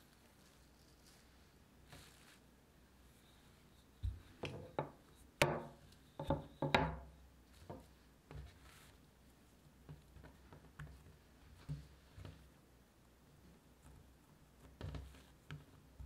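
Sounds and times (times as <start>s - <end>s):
rolling pin rolling dough: 1.8s - 12.6s, 13.3s - 16.0s.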